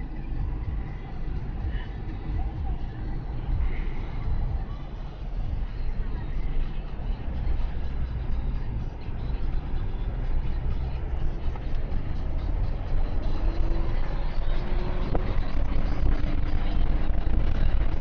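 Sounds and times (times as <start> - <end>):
engine and tyre rumble in car: 0.0 - 18.0.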